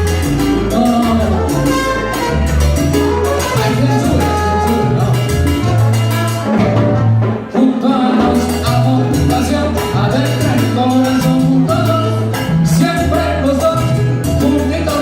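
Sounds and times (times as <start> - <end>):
live salsa band playing: 0.0 - 15.0.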